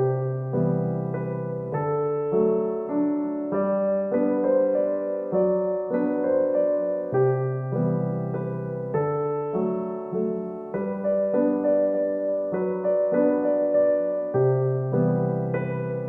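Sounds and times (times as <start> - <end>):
gentle piano tune with bass: 0.0 - 16.0.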